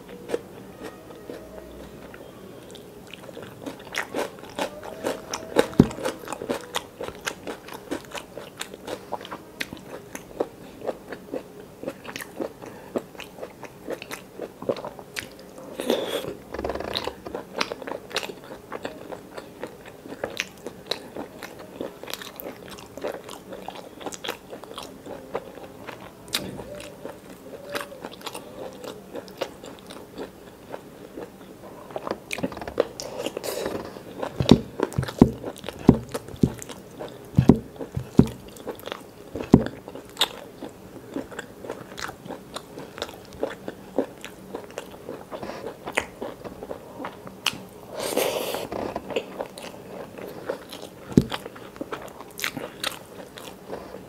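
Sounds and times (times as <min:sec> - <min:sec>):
chewing and biting food: 0:00.3 - 0:54.0.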